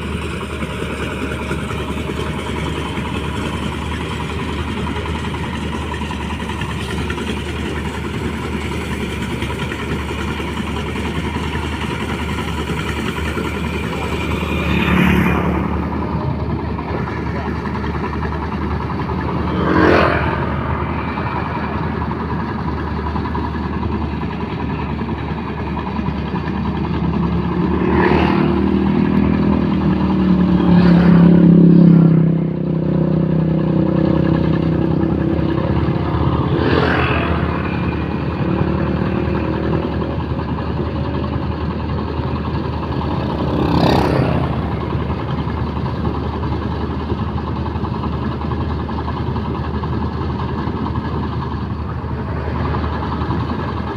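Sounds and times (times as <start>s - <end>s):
rice thresher engine running: 0.0s - 53.9s.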